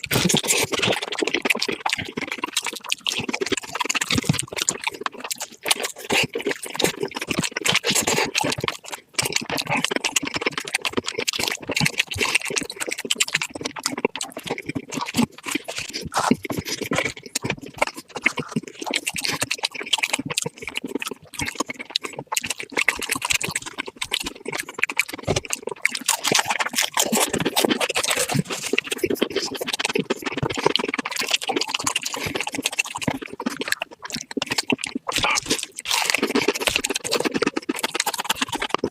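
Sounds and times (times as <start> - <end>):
fast crunching and chewing: 0.0 - 38.9.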